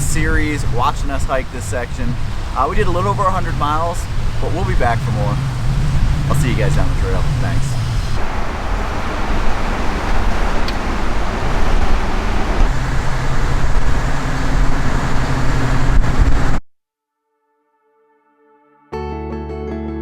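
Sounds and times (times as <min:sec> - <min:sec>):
waves washing on shore: 0:00.0 - 0:16.5
wind rumbling on microphone: 0:00.0 - 0:16.6.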